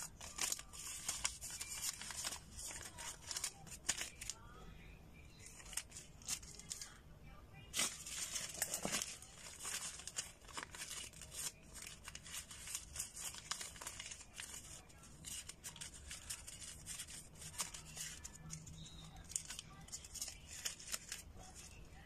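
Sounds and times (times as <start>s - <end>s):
banknotes rustling: 0.0s - 4.4s, 5.4s - 7.0s, 7.7s - 22.0s.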